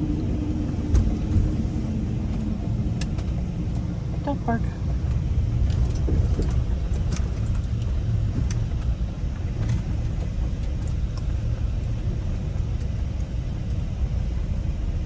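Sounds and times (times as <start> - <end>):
road and engine rumble in van: 0.0 - 15.0.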